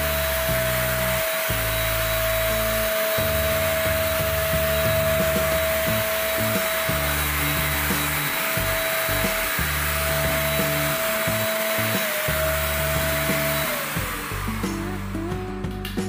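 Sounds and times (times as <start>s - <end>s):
paint spray gun whine and hiss: 0.0s - 15.6s
background music with bass: 0.0s - 16.0s.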